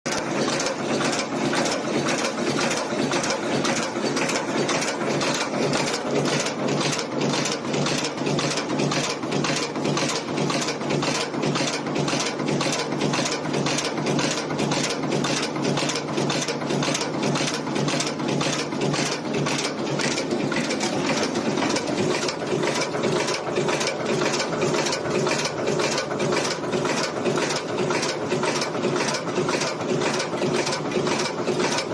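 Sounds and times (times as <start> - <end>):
heading machine rapid clatter: 0.1 - 31.9.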